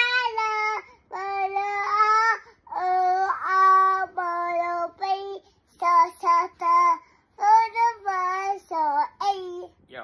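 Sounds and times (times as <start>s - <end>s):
girl singing: 0.0s - 9.9s.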